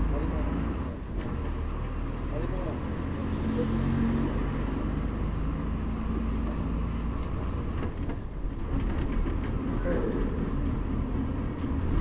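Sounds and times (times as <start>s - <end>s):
bus engine humming: 0.0s - 12.0s
road rumble: 0.0s - 12.0s.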